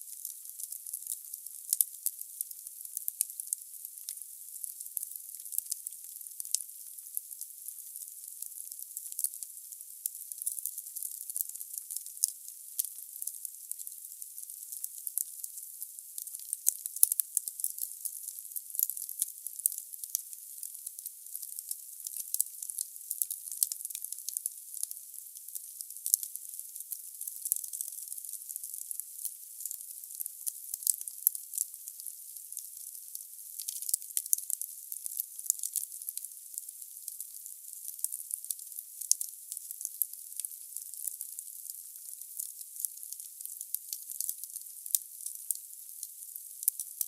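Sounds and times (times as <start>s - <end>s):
firewood crackling in a fireplace: 0.0s - 47.0s.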